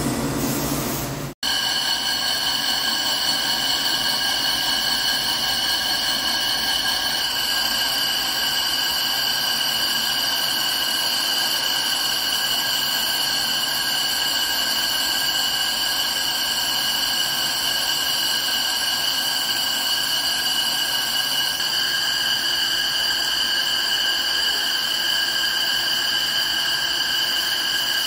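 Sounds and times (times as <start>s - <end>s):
high machine whine: 1.4s - 28.0s
lathe machining metal: 1.4s - 28.0s.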